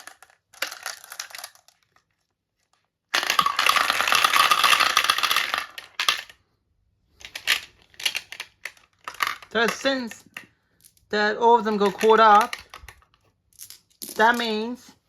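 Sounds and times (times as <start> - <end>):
marbles clattering together: 0.0 - 2.2, 3.1 - 6.4, 7.2 - 14.8.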